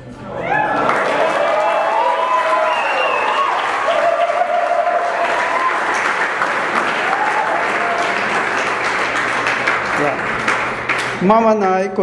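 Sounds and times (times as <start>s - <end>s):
people applauding: 0.5s - 11.3s.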